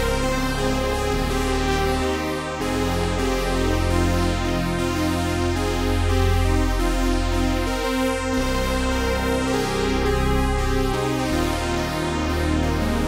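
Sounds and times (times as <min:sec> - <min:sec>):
synthesizer chords: 0:00.0 - 0:13.0.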